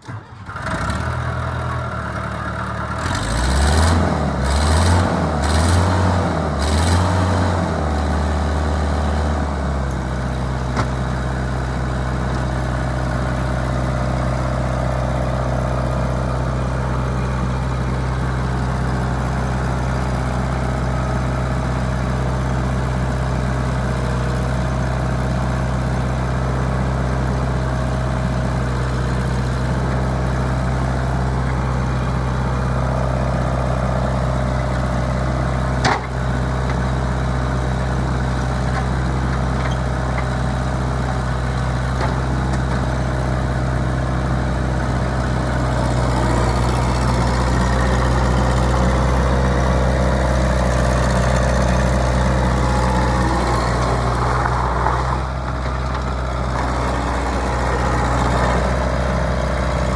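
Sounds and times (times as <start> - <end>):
skid steer diesel engine: 0.0 - 59.9.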